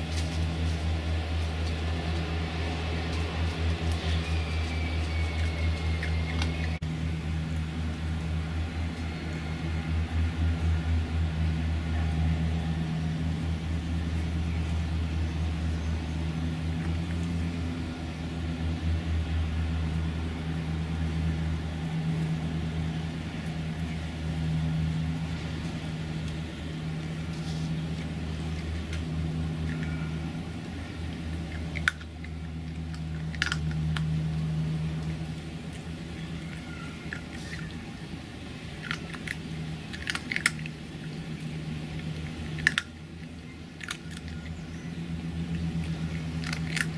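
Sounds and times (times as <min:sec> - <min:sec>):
urban traffic rumble: 0:00.0 - 0:46.9.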